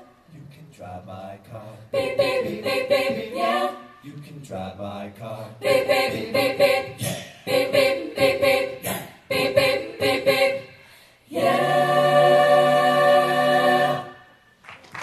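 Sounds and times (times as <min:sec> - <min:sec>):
choir singing a cappella: 0:00.0 - 0:14.6.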